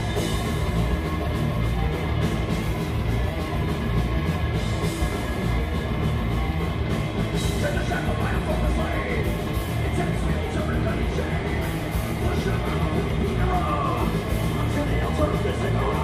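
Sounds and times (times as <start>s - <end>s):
bass guitar: 0.0s - 16.0s
distorted electric guitars: 0.0s - 16.0s
drum kit: 0.0s - 16.0s.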